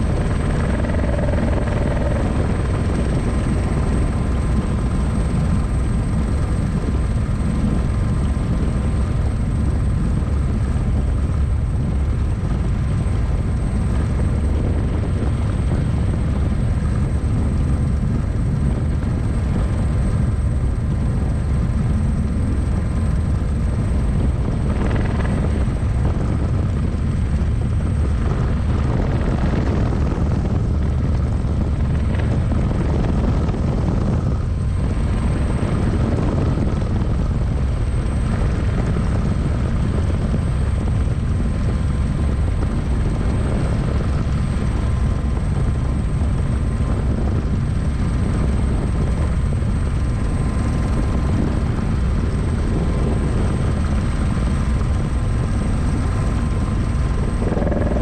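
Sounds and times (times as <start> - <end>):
helicopter rotor and engine din: 0.0 - 58.0.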